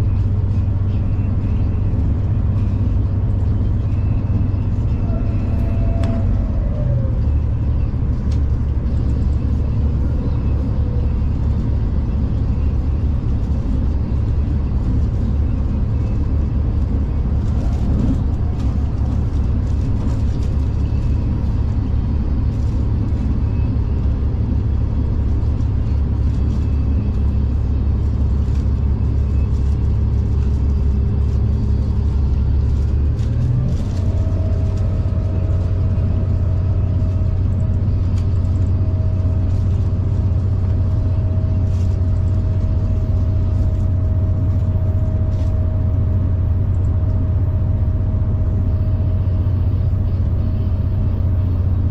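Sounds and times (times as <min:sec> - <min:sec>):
diesel train rumbling: 0:00.0 - 0:51.9
steady whine: 0:00.0 - 0:51.9.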